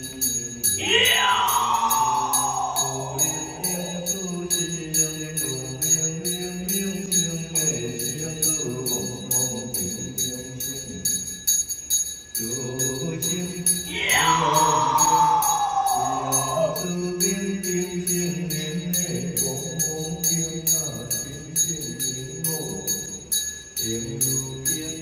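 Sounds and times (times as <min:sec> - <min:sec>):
ritual chanting: 0:00.0 - 0:25.0
small bells beating: 0:00.0 - 0:25.0.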